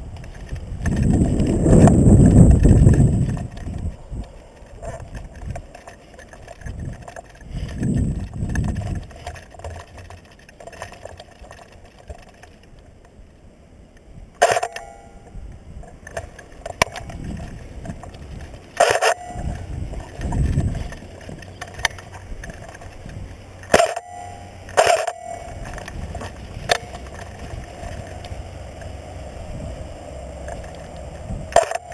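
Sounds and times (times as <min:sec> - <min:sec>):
rustling and low bumps: 0:00.0 - 0:13.0, 0:14.2 - 0:31.9.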